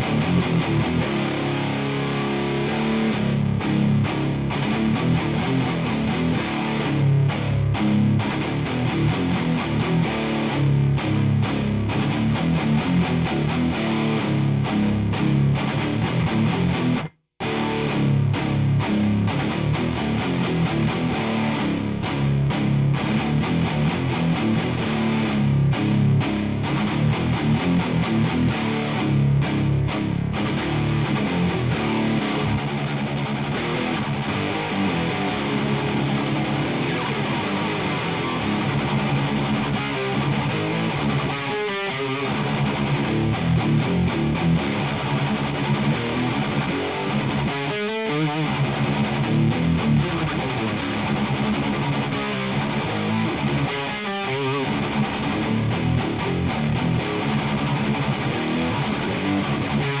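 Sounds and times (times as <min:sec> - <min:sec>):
distorted electric guitar riffs: 0:00.0 - 1:00.0.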